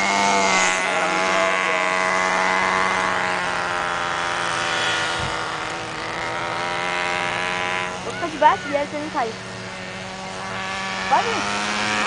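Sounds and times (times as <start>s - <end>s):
rc helicopter rotor whining: 0.0s - 12.0s.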